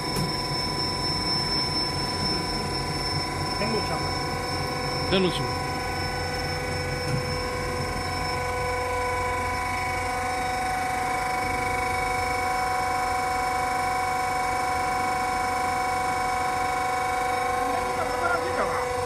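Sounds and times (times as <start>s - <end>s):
machine drive whine: 0.0s - 19.0s
mechanical hum: 0.0s - 19.0s.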